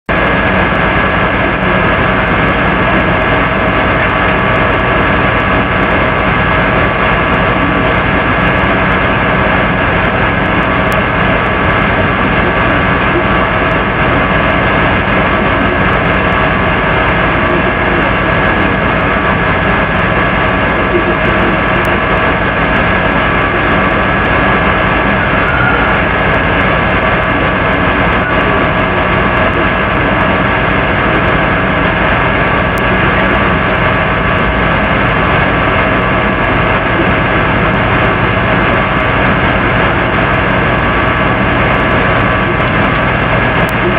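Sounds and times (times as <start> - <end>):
electrical hum and hiss: 0.1 - 43.9.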